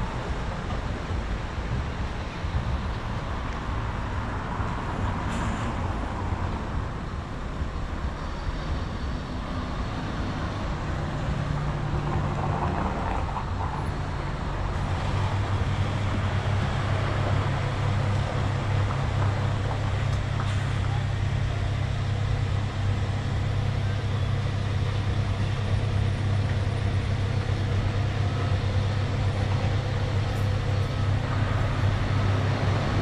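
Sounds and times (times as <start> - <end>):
large vehicle engine drone: 0.0 - 33.0
road traffic: 0.0 - 33.0.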